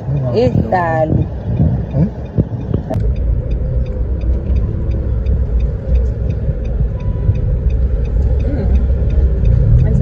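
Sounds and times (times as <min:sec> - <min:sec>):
faint even ticking: 0:00.0 - 0:10.0
low vehicle rumble: 0:00.0 - 0:10.0.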